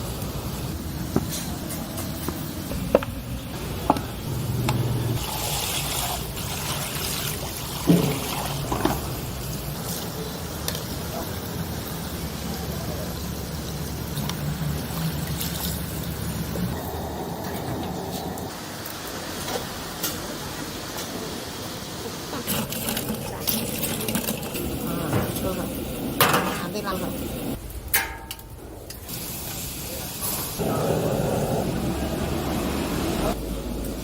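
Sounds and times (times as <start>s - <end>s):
food stall background wash: 0.0s - 34.0s.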